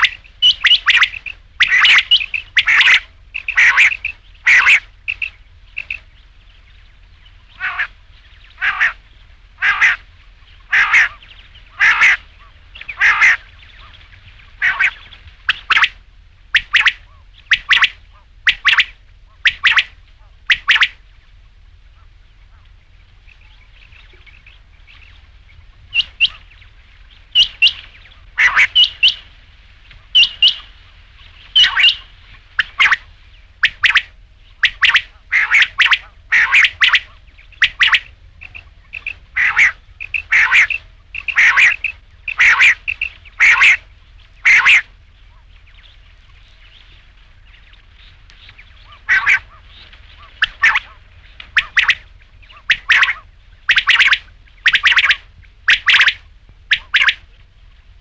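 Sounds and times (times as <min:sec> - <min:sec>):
quail calling: 0:00.0 - 0:06.4, 0:07.2 - 0:57.4.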